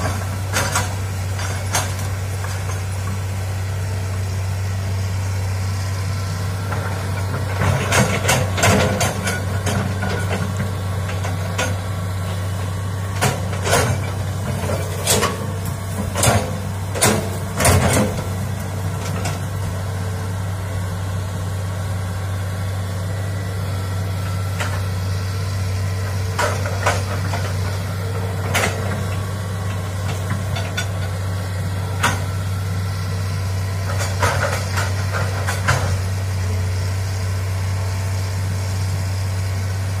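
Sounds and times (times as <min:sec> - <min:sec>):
excavator diesel engine: 0:00.0 - 0:40.0.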